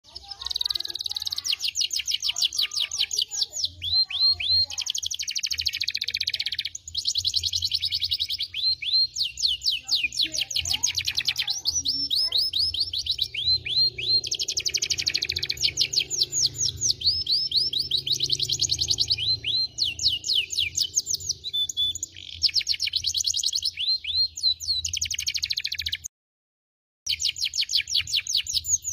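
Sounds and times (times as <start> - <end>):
canary singing trills: 0.0 - 26.1, 27.1 - 28.9.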